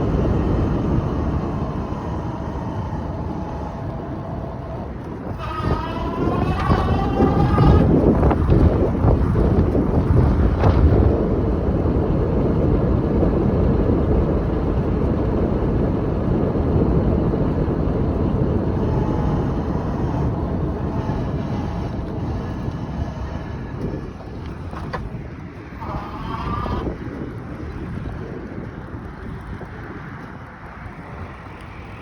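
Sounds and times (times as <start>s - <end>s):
faint electric motor whine: 0.0s - 32.0s
muffled e-bike rumble: 0.0s - 32.0s
wind noise: 0.0s - 32.0s.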